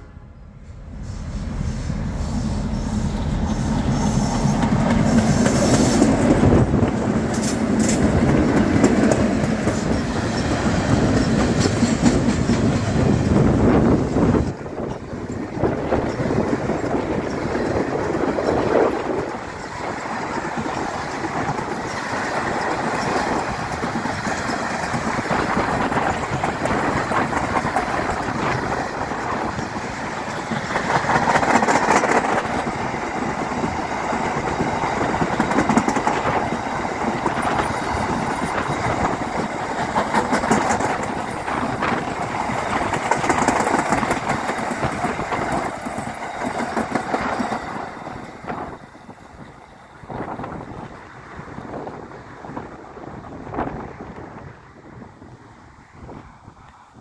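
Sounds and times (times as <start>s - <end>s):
freight train wagons passing: 0.0s - 57.0s.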